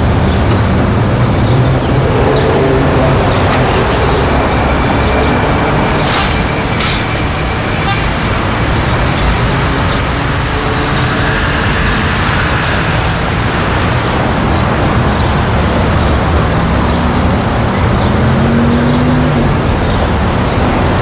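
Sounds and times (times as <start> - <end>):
busy street traffic passing: 0.0 - 21.0.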